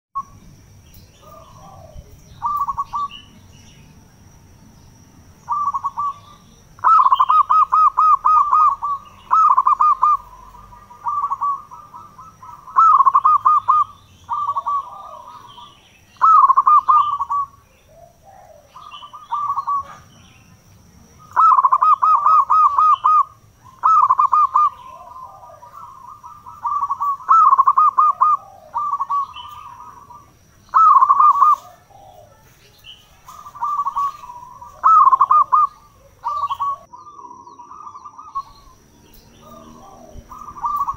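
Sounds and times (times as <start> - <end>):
dove cooing: 1.1 - 3.8, 5.4 - 20.3, 21.2 - 40.9.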